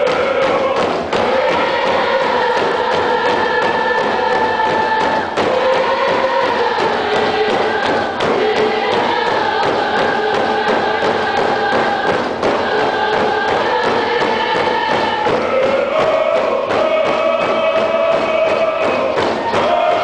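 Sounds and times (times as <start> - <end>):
group singing in unison: 0.0 - 20.0
hand drums beating: 0.0 - 20.0.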